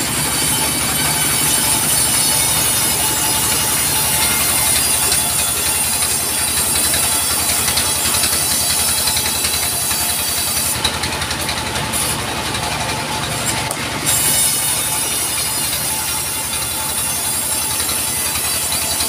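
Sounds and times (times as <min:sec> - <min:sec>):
sawmill engine pulsing: 0:00.0 - 0:19.0.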